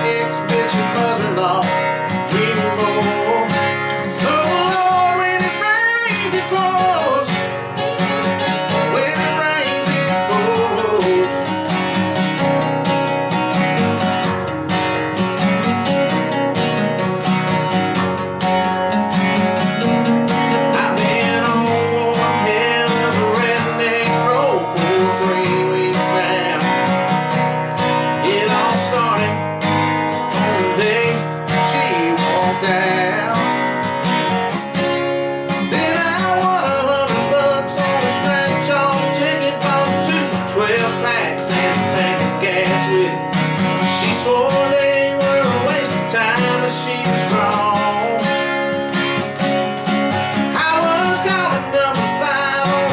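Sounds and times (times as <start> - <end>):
acoustic guitars playing country: 0.0 - 52.9.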